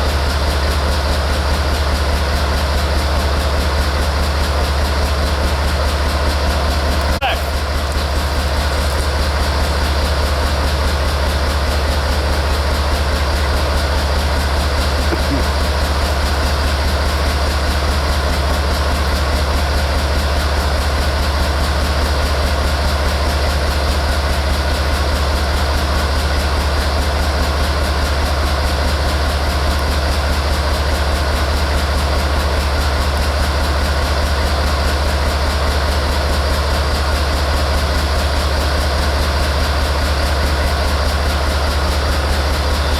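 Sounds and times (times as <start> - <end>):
locomotive idling: 0.0 - 42.9.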